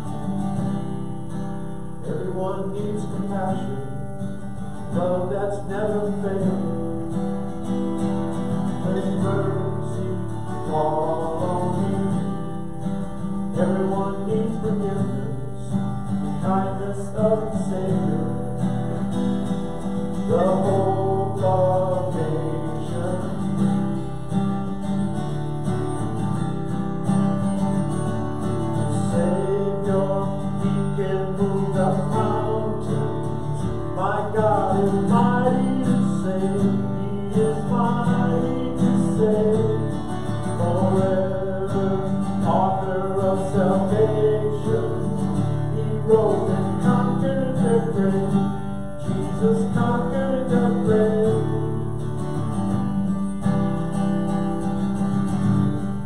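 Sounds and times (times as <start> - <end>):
acoustic guitar strummed: 0.0 - 56.0
man singing: 1.6 - 24.3, 28.4 - 52.6.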